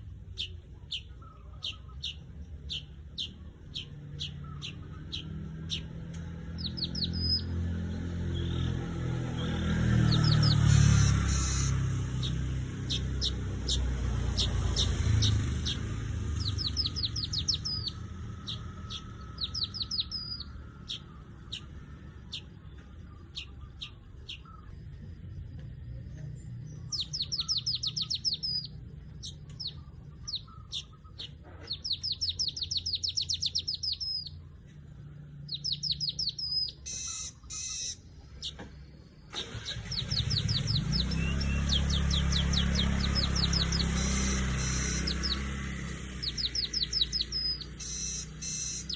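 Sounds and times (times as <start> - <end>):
bird chirping sharply: 0.0 - 25.0, 26.2 - 48.9.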